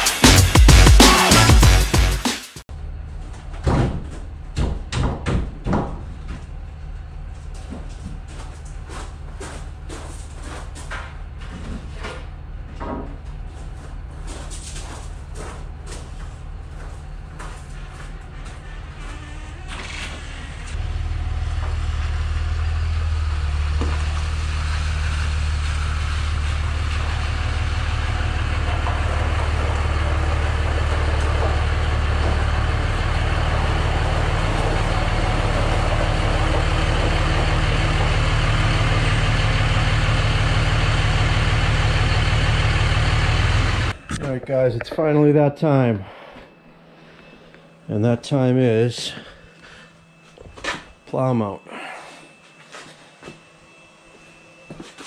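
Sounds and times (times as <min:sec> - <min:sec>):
diesel truck engine running: 0:00.0 - 0:05.0, 0:05.8 - 0:54.8.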